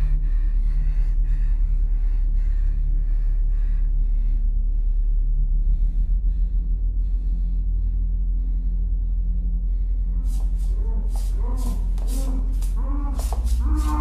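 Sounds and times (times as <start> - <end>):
low droning rumble: 0.0 - 14.0.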